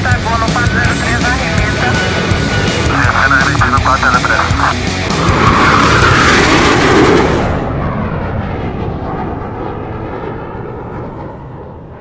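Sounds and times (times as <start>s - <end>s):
jet aircraft roar: 0.0s - 12.0s.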